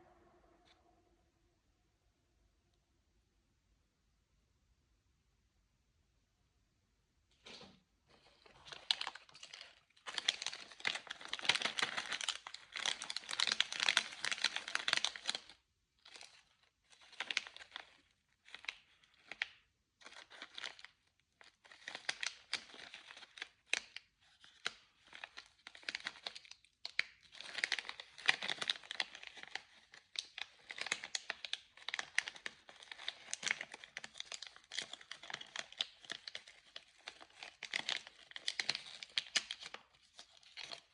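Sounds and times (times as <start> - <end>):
plastic wrapper crinkling: 7.5 - 40.9.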